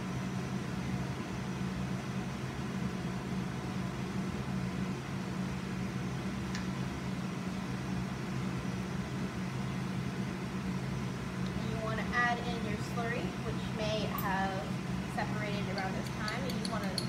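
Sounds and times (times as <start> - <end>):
ventilation fan humming: 0.0 - 17.0.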